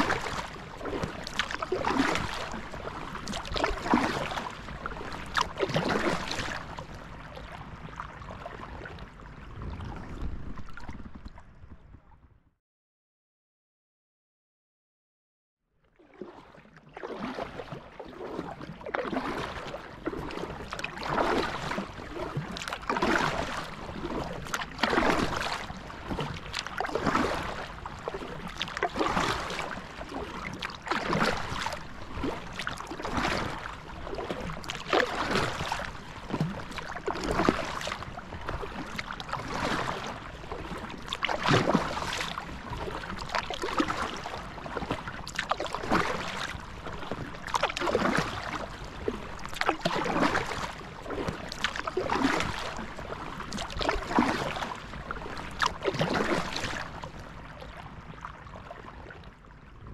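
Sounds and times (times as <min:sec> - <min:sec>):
kayak paddle splashing: 0:00.0 - 0:09.0, 0:16.0 - 0:59.2
water washing along hull: 0:00.0 - 0:12.1, 0:16.0 - 0:59.9.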